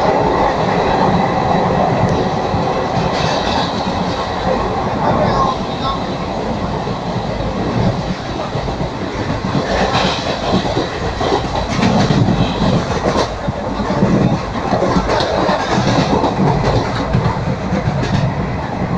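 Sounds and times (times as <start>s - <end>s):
train rumbling on tracks: 0.0s - 18.9s.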